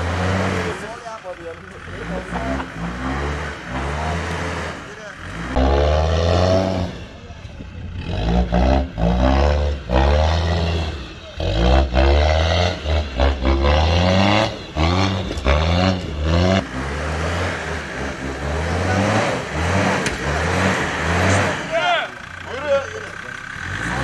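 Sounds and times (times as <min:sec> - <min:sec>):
diesel engine revving hard: 0:00.0 - 0:24.0.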